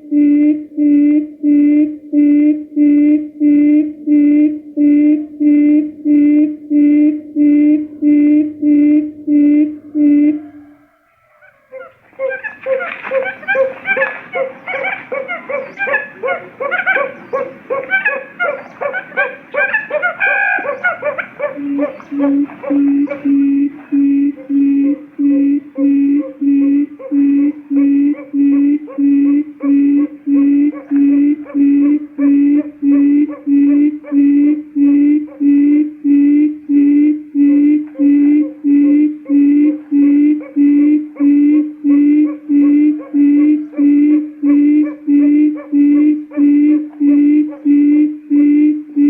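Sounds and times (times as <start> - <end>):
quail calling: 7.8 - 49.0.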